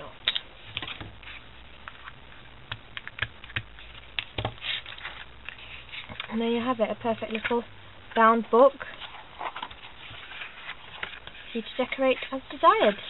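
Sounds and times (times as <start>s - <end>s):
hands rustling a card booklet: 0.2s - 13.0s.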